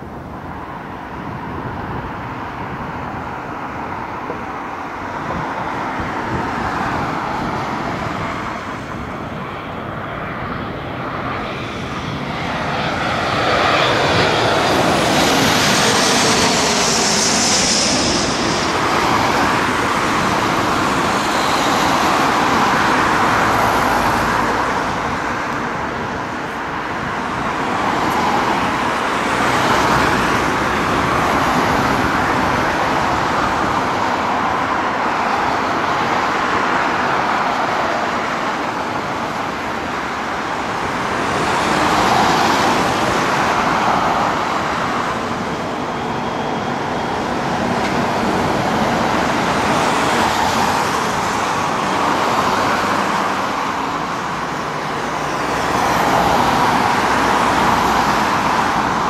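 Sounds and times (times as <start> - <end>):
distant vehicles rushing: 0.8 - 59.0.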